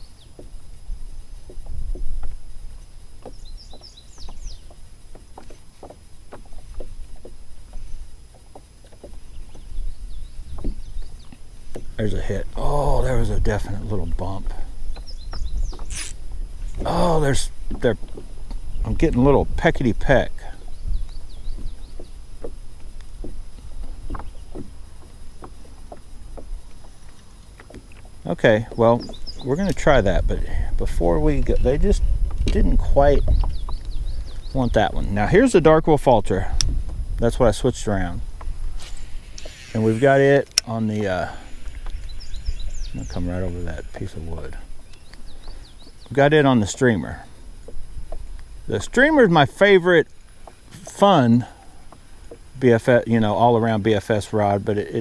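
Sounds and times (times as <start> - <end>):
small waves tapping boat hull: 0.0 - 55.0
songbird chirping: 0.0 - 55.0
wind rumbling on microphone: 0.0 - 55.0.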